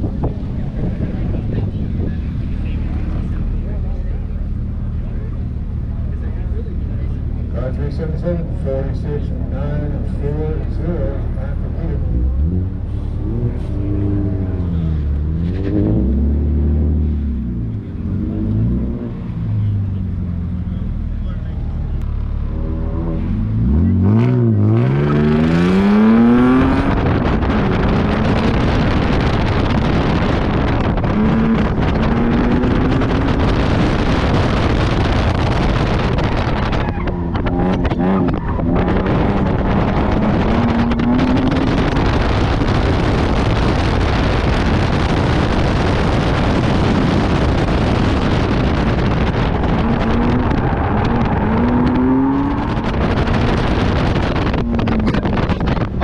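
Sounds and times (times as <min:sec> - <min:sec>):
car engine revving: 0:00.0 - 0:56.0
rushing noise of car at speed: 0:00.0 - 0:56.0.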